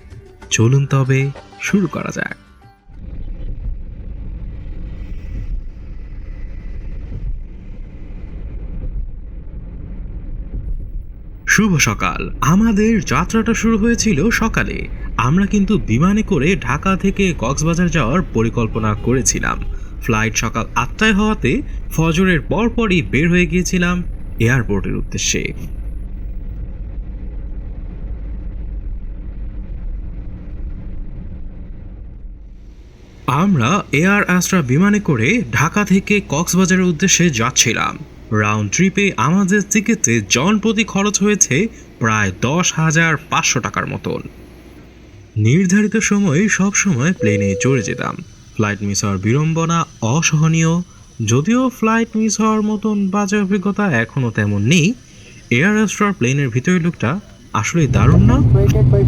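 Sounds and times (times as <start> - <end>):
moving vehicle rumble: 2.9 - 45.4, 49.9 - 59.0.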